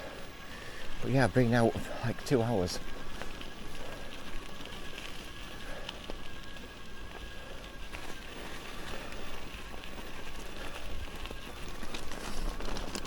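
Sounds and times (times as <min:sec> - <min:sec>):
tyres rolling over rough track: 0:00.0 - 0:13.0.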